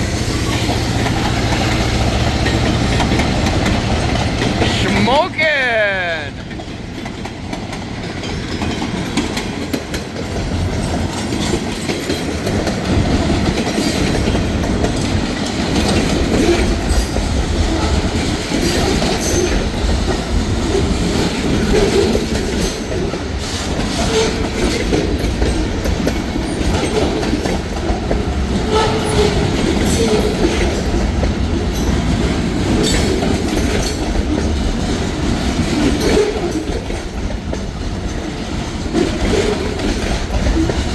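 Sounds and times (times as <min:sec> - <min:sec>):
train wheels clacking over rail joints: 0:00.0 - 0:04.6, 0:06.6 - 0:40.9.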